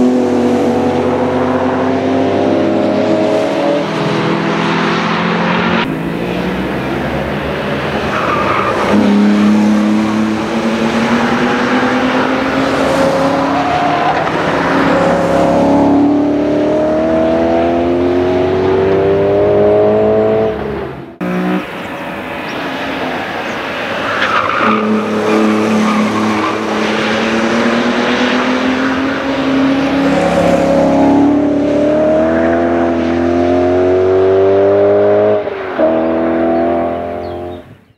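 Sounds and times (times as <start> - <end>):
car engine accelerating hard: 0.0 - 37.7.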